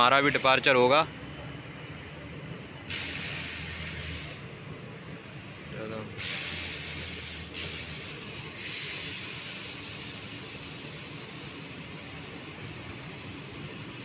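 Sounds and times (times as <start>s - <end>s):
train wheels rushing on rail: 0.0s - 14.0s.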